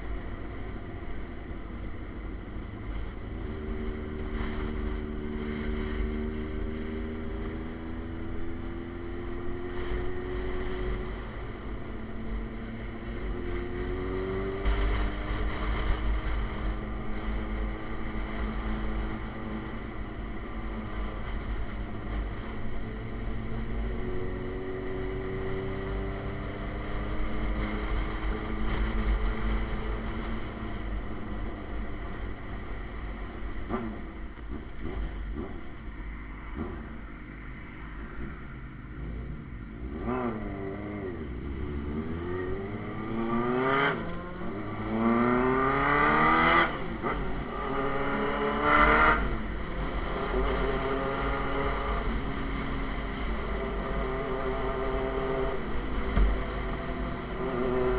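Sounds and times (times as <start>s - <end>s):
motorcycle engine accelerating: 3.0s - 35.8s, 39.0s - 57.9s.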